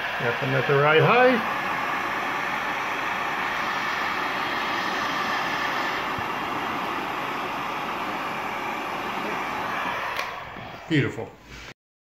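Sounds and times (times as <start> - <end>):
heat gun blowing air: 0.0 - 11.7.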